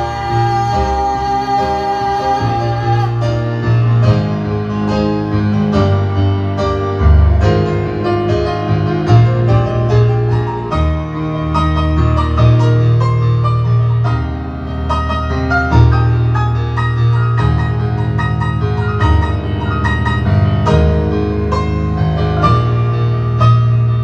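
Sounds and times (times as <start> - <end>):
piano playing slow pop ballad: 0.0 - 24.0.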